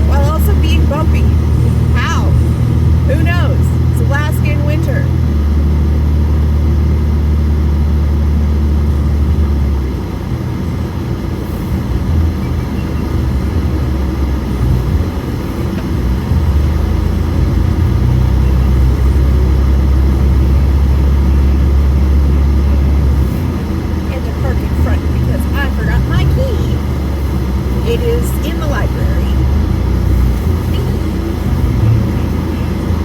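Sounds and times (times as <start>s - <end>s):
car engine droning: 0.0s - 33.0s
road noise inside car: 0.0s - 33.0s.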